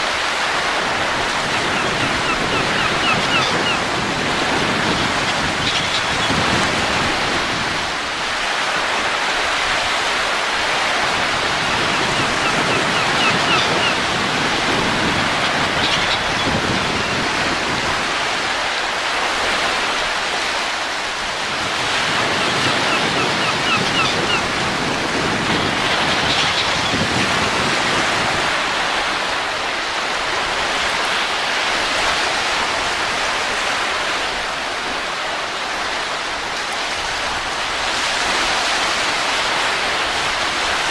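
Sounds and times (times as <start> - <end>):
rushing wind: 0.0 - 40.9.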